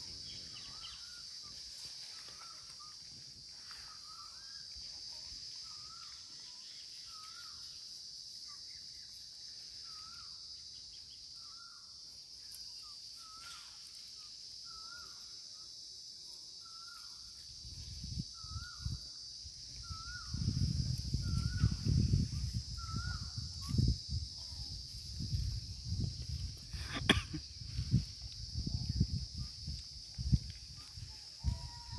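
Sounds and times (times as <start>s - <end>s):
insects droning: 0.0s - 31.9s.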